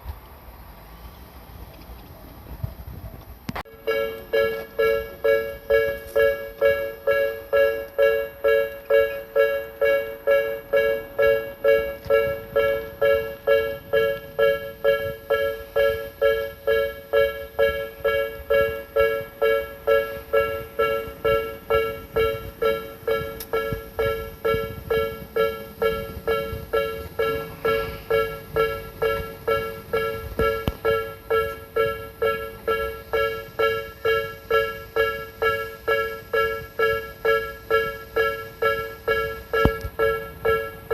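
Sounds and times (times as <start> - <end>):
level crossing warning bell: 3.6 - 40.9.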